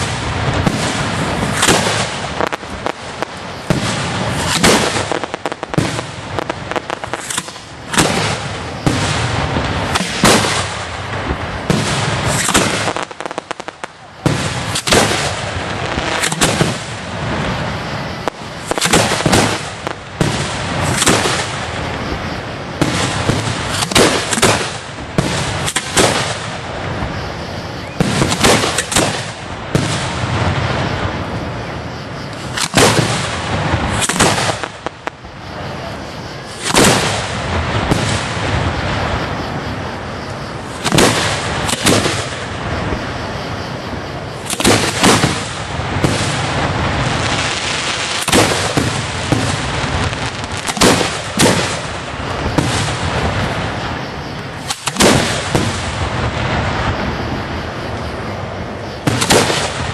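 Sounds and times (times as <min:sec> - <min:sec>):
crackling rumbling haze: 0:00.0 - 0:59.9
fireworks bangs: 0:00.0 - 0:59.9.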